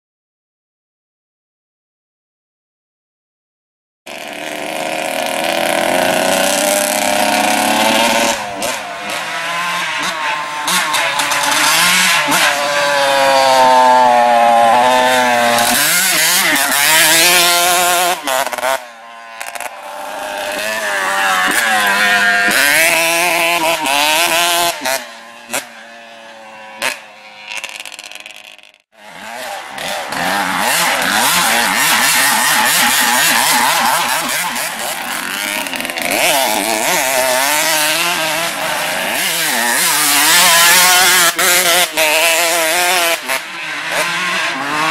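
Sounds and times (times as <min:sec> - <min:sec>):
two-stroke engine revving: 0:04.1 - 0:44.9.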